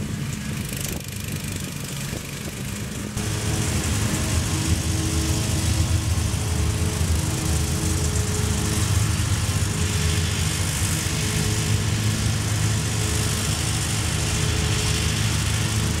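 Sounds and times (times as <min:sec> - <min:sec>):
freight train rumble: 0:00.0 - 0:16.0
riding lawn mower engine: 0:00.0 - 0:16.0.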